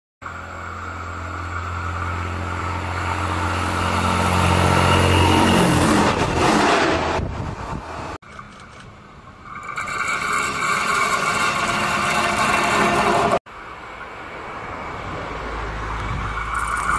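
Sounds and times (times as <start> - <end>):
train running past: 0.2 - 8.2, 10.2 - 16.9.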